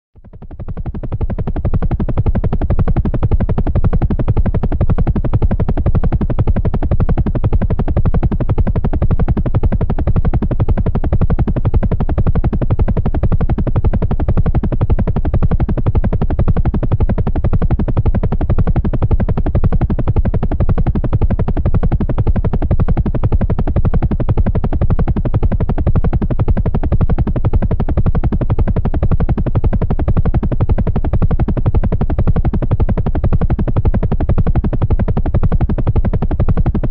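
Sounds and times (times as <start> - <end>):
helicopter rotor chopping: 0.3 - 36.9.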